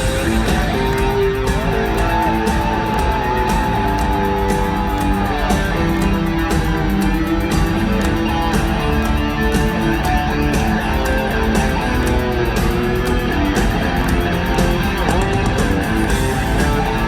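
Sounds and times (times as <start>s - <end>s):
bass guitar: 0.0s - 17.0s
drum beat: 0.0s - 17.0s
electric guitar: 0.0s - 17.0s.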